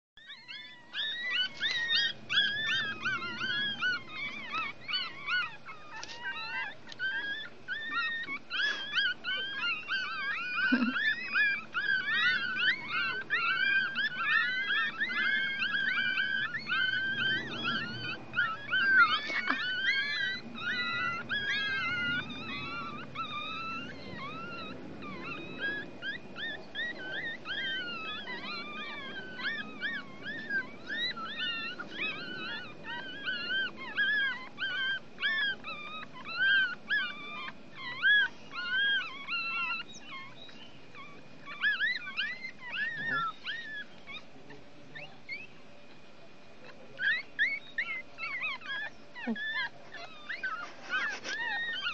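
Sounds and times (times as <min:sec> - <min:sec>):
puppies whimpering and squealing: 0:00.2 - 0:51.9.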